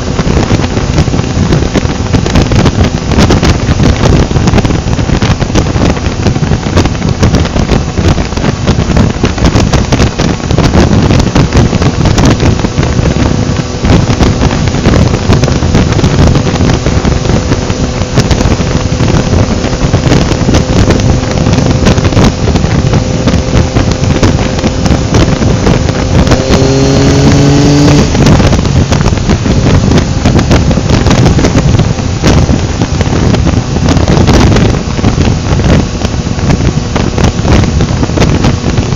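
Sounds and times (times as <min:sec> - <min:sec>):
motorcycle engine: 0:00.0 - 0:38.9
wind rushing over microphone: 0:00.0 - 0:38.9.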